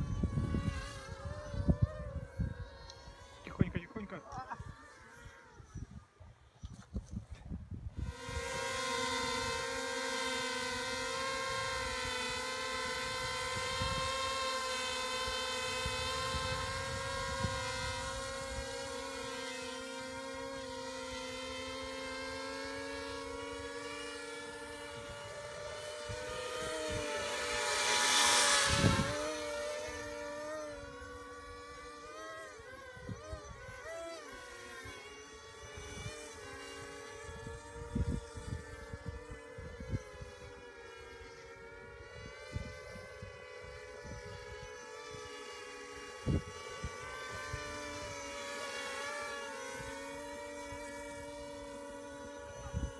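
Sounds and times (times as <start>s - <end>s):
quadcopter propellers whining: 0.0s - 52.9s.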